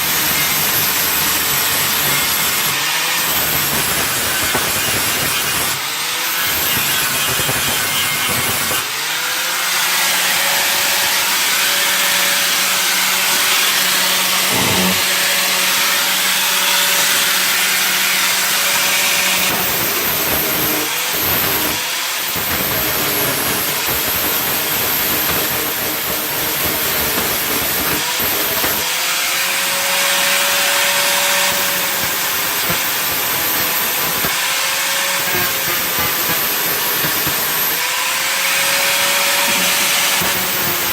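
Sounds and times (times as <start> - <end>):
electric grinder on sheet metal: 0.0 - 40.9.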